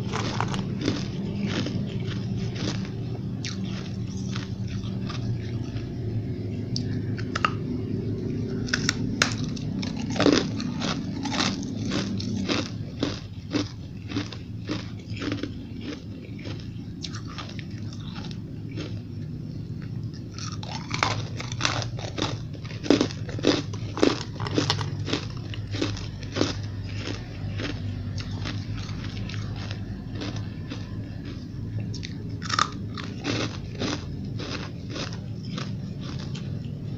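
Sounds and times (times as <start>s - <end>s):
ice being chewed: 0.0s - 6.1s, 6.7s - 36.9s
steady low hum: 0.0s - 36.9s.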